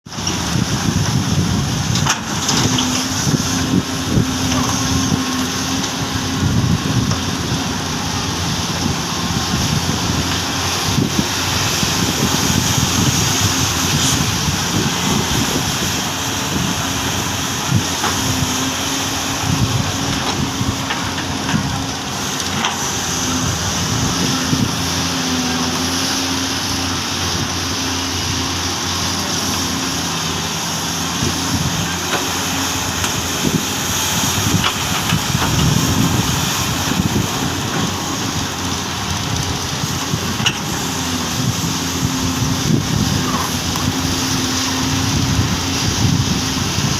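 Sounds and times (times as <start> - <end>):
excavator diesel engines: 0.1 - 46.9
wind buffeting microphone: 0.3 - 46.9.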